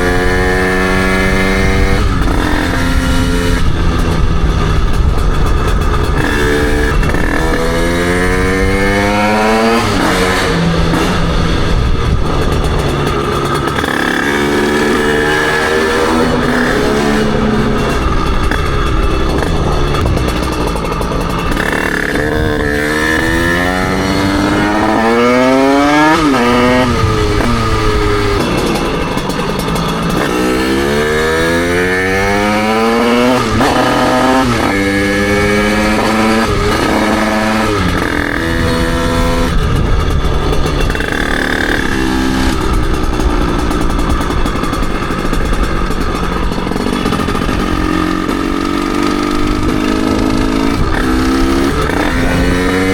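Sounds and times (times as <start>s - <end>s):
moped engine accelerating: 0.0s - 52.9s
road noise: 0.0s - 52.9s
wind noise: 0.0s - 52.9s.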